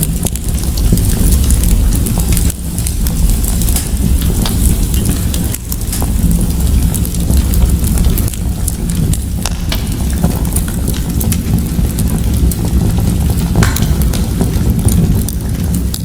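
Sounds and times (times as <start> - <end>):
fire crackling in a fireplace: 0.0 - 16.0.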